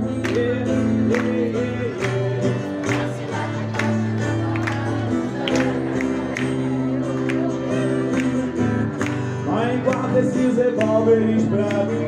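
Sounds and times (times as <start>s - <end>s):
acoustic guitar: 0.0s - 12.0s
person singing: 0.0s - 12.0s.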